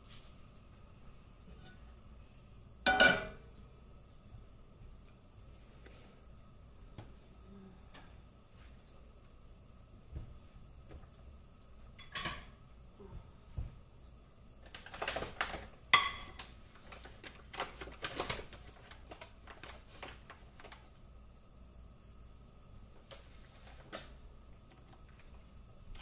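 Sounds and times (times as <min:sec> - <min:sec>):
faint high hum: 0:00.0 - 0:26.0.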